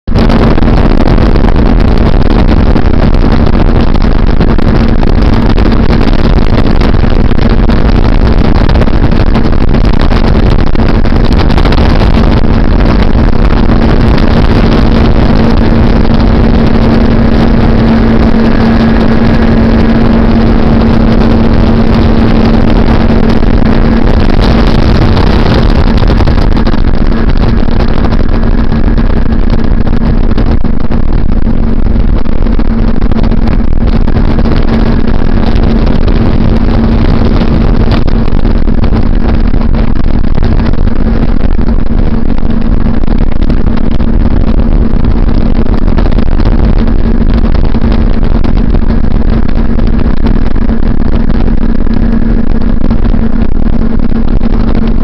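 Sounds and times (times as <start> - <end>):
outboard motor drone: 0.0 - 55.0
rush of wind and water: 0.0 - 55.0.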